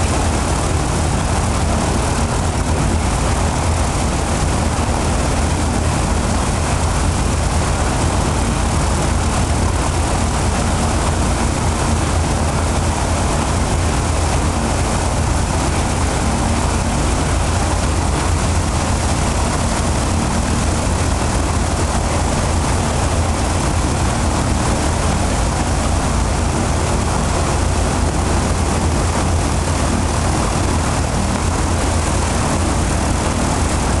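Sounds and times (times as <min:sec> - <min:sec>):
propeller engine droning: 0:00.0 - 0:34.0.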